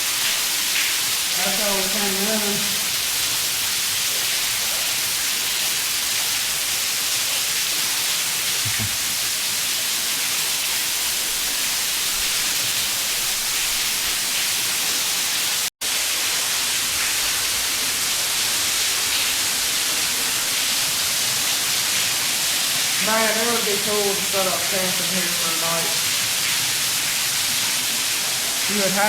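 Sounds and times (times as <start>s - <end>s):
waterfall rushing hiss in cave: 0.0s - 29.0s.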